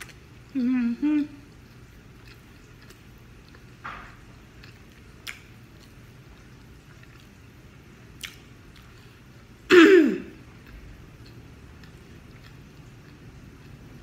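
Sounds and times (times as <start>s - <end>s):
mouth clicks and wet eating noises: 0.0s - 9.5s, 10.3s - 14.0s
steady room hum: 0.0s - 14.0s.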